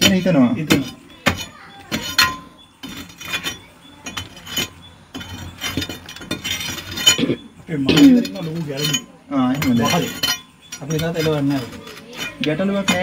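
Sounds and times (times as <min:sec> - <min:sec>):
metal bar chipping brick wall: 0:00.0 - 0:13.0.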